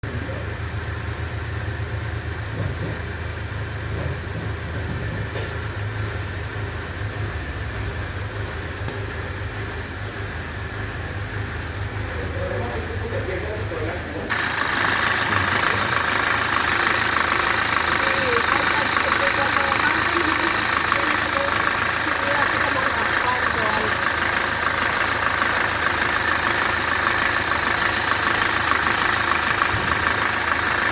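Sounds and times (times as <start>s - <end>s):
abnormal engine noise: 0.0s - 30.9s
diesel engine idling: 0.0s - 30.9s.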